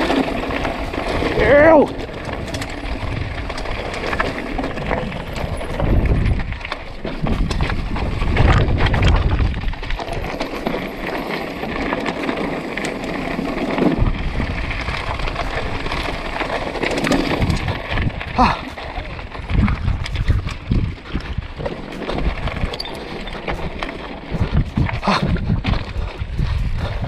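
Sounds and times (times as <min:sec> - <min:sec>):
wind buffeting microphone: 0:00.0 - 0:11.7, 0:13.8 - 0:27.0
bike tyres rolling over loose rock: 0:00.0 - 0:27.0.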